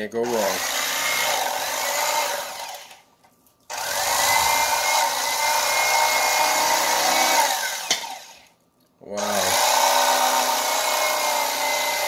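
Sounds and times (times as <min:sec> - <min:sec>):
electric knife motor whining: 0:00.2 - 0:03.0, 0:03.7 - 0:08.5, 0:09.2 - 0:12.0.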